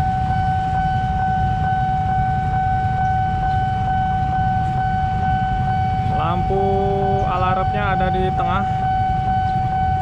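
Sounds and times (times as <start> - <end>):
level crossing warning alarm: 0.0 - 10.0
low rumble: 0.0 - 10.0.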